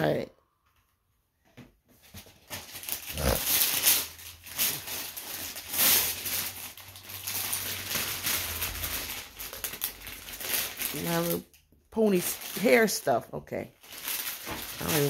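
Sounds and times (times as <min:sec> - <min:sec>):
wrapping paper rustling: 0:01.9 - 0:15.0.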